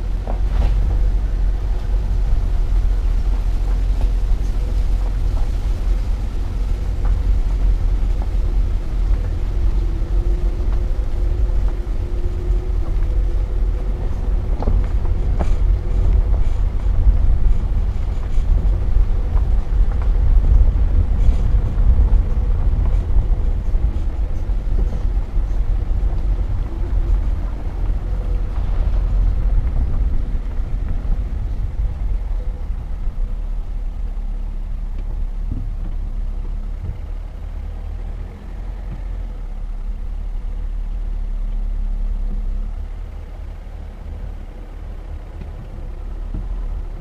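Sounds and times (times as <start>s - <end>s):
tyres rumbling on gravel: 0.0s - 47.0s.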